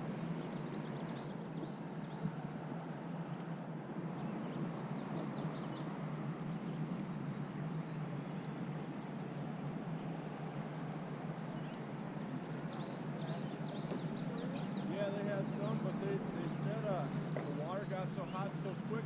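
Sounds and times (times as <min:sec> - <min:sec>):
birds chirping: 0:00.0 - 0:19.0
steady outdoor rushing noise: 0:00.0 - 0:19.0.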